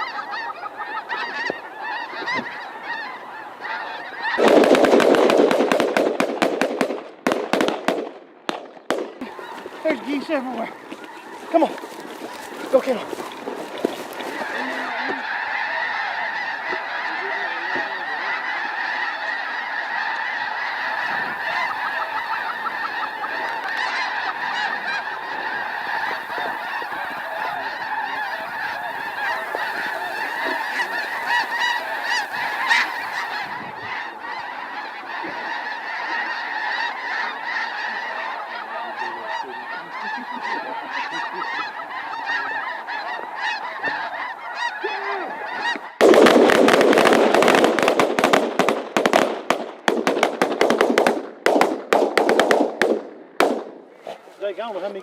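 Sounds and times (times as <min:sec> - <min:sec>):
flock of geese honking: 0:00.0 - 0:06.8, 0:08.5 - 0:55.0.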